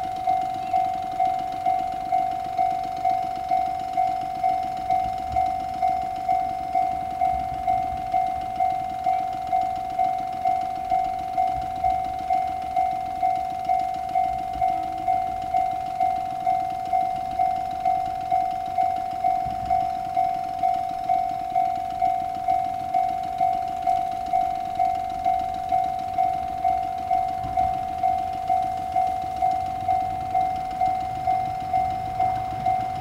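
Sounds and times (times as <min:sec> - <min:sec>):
level crossing alarm bell: 0:00.0 - 0:33.0.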